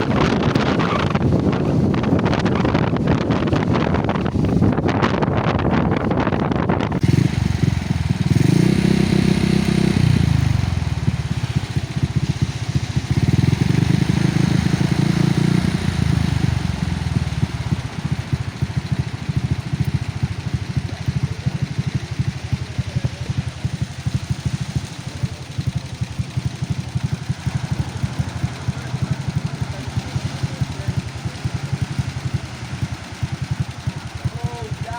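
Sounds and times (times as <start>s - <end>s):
motor engine running: 0.0s - 34.9s.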